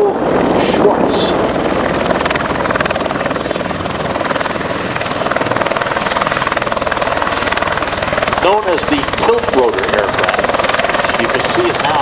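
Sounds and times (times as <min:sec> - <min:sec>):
aircraft engine noise: 0:00.0 - 0:12.0.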